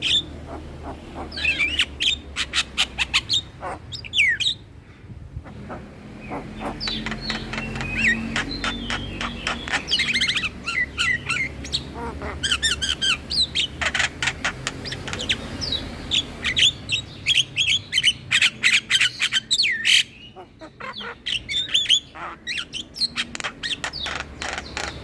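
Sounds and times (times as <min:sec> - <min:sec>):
myna bird chattering song: 0:00.0 - 0:04.7, 0:05.4 - 0:25.0.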